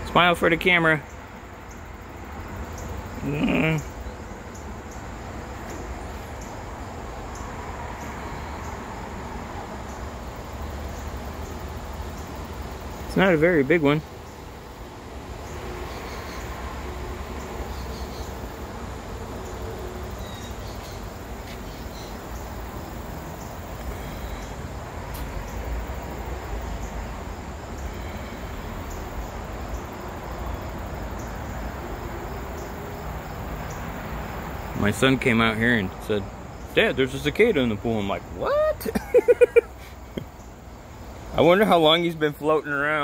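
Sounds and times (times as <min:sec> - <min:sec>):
insects calling: 0:00.0 - 0:43.0.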